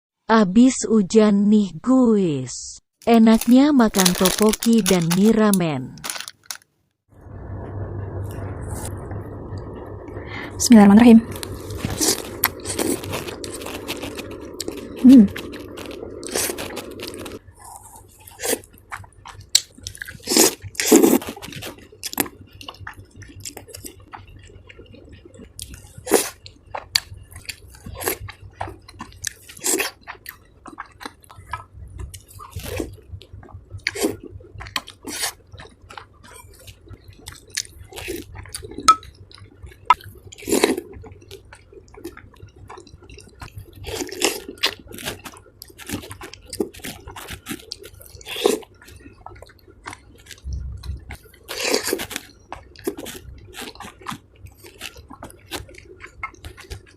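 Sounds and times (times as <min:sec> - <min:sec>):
wet chewing: 0:11.3 - 0:56.9.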